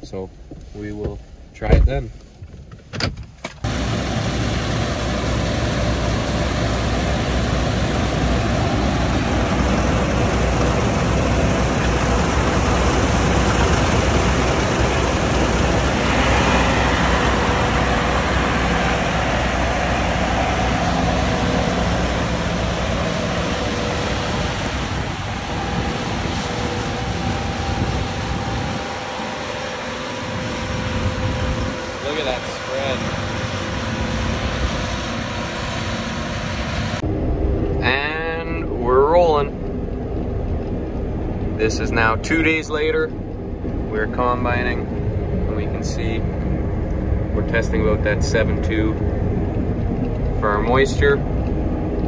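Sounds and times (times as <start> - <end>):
constant rushing noise: 3.5 - 52.0
vehicle engine running: 3.6 - 52.0.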